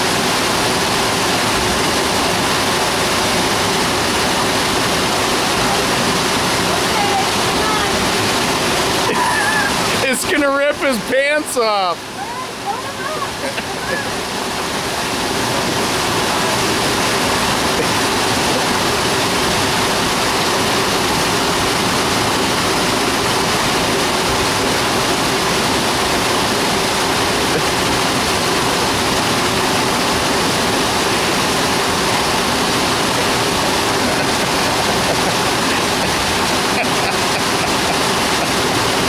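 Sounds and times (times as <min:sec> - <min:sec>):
river water rushing over rocks: 0:00.0 - 0:39.0.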